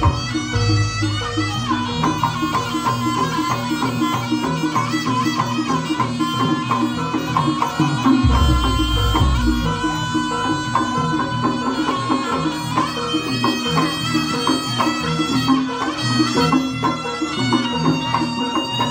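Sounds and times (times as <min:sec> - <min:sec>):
drum and percussion strokes: 0:00.0 - 0:18.9
reedy shawm melody: 0:00.0 - 0:18.9.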